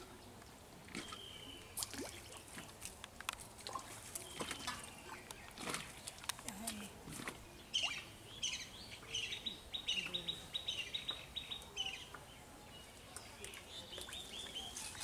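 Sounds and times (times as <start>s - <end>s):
songbird chirping: 0.0s - 2.8s, 3.7s - 15.0s.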